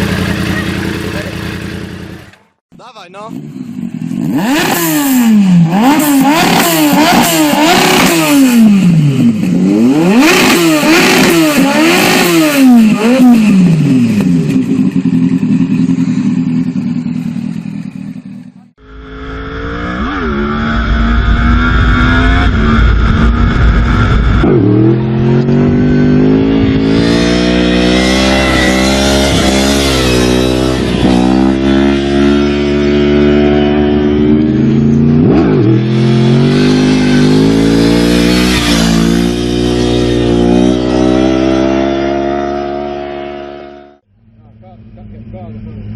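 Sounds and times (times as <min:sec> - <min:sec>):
engine running with throttle blips: 0:00.0 - 0:02.6, 0:03.3 - 0:45.9
motorcycle engine revving: 0:00.0 - 0:45.9.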